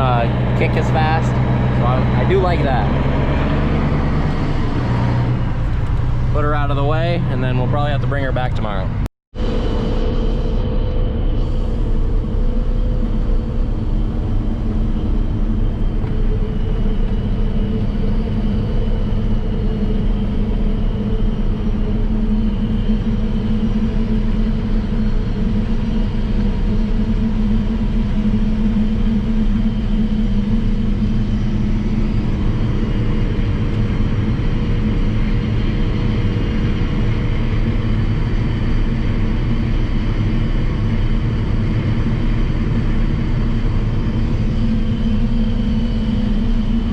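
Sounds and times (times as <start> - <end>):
diesel farm vehicle engine: 0.0 - 46.9.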